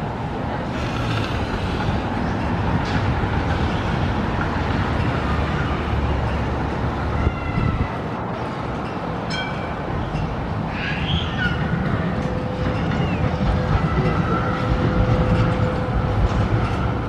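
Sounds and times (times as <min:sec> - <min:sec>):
trams and cars passing: 0:00.0 - 0:17.0.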